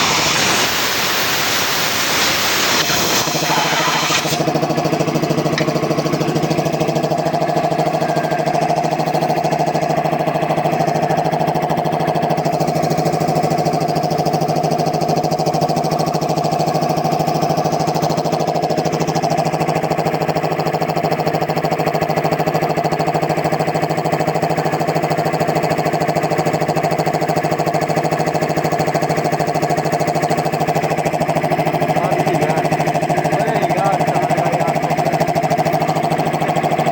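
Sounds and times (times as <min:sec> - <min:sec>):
air compressor running: 0:00.0 - 0:36.9.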